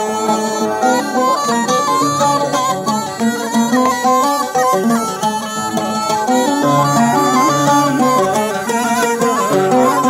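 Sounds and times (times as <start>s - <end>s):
oud accompaniment: 0.0s - 10.0s
reed pipe melody: 0.0s - 10.0s.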